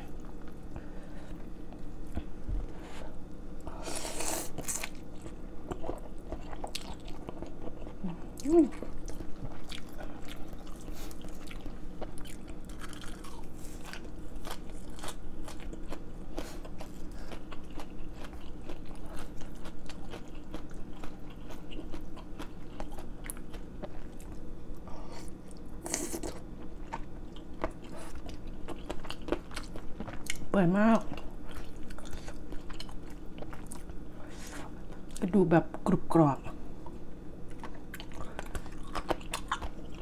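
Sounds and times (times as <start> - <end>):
person chewing food: 3.9 - 30.5, 31.1 - 35.2, 36.8 - 40.0.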